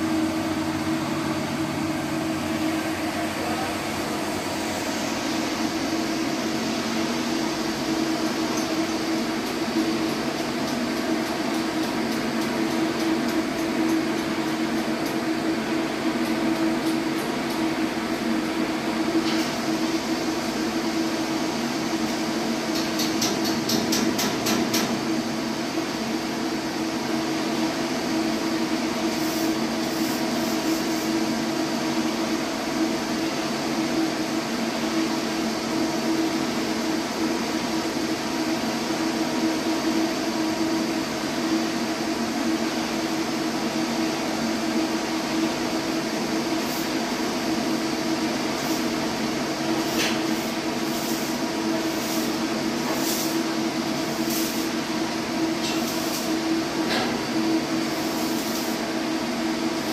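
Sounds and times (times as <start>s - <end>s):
engine room machinery drone: 0.0s - 59.9s.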